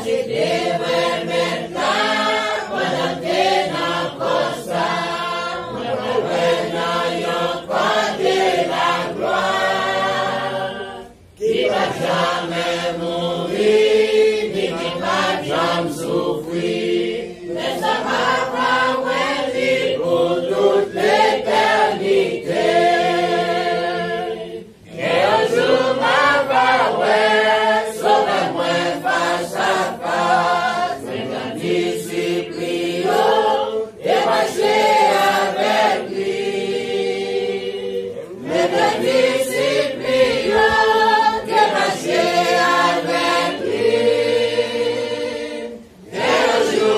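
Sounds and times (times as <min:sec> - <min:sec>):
congregation singing: 0:00.0 - 0:46.9.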